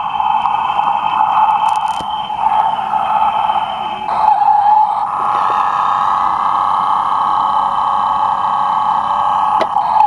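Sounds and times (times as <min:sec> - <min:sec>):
toy engine sound effect: 0:00.0 - 0:10.0.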